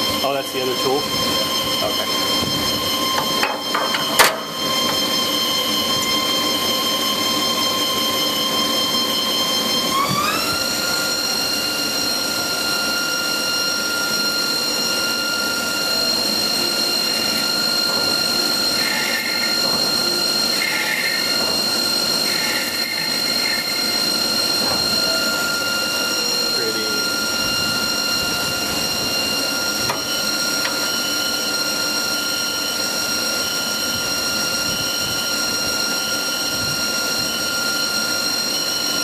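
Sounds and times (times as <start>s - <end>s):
lathe spindle whining: 0.0s - 39.0s.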